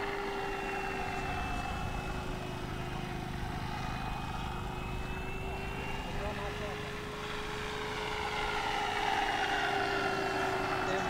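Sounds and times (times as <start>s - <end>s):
model plane propeller whine: 0.0s - 11.0s.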